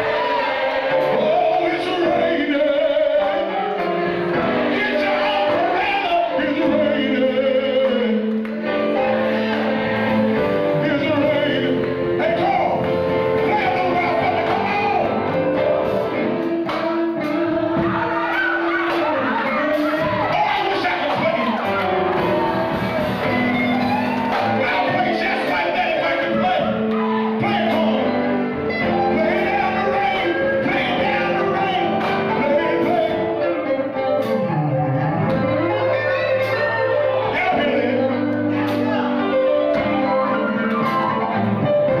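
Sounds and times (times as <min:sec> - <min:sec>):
band accompaniment: 0:00.0 - 0:42.0
guitar: 0:00.0 - 0:42.0
keyboard chords: 0:00.0 - 0:42.0
person singing: 0:00.0 - 0:42.0.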